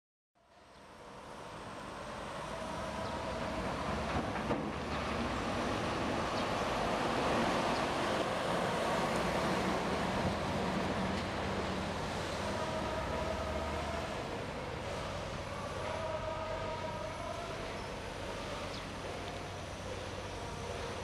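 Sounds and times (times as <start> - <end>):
construction site din: 1.5 - 21.0.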